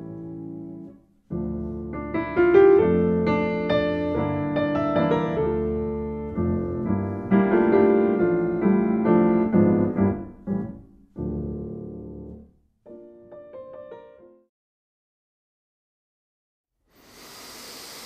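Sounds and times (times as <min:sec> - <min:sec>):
piano music: 0:00.0 - 0:14.5.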